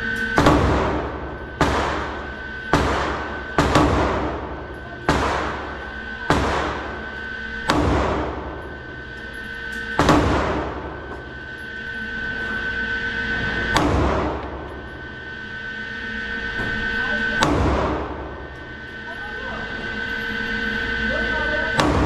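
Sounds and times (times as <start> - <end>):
pistol shots echoing indoors: 0.0 - 22.0.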